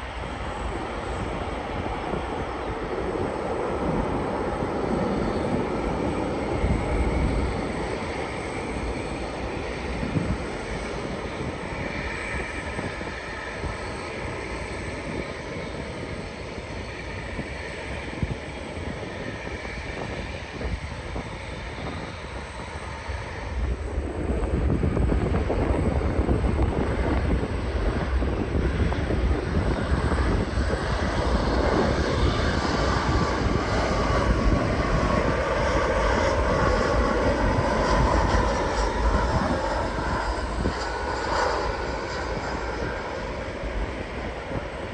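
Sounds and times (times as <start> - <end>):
jet engines whining and rumbling: 0.0 - 44.9.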